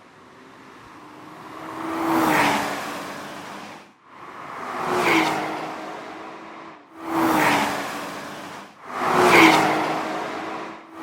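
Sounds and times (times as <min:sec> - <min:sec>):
sports car driving past: 0:00.4 - 0:11.0.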